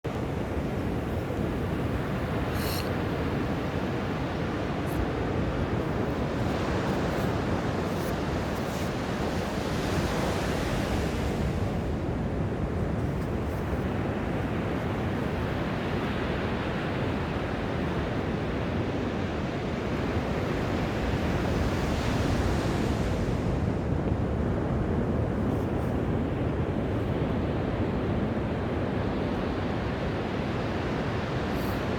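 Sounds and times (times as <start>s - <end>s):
wind rumble on microphone: 0.0s - 31.9s.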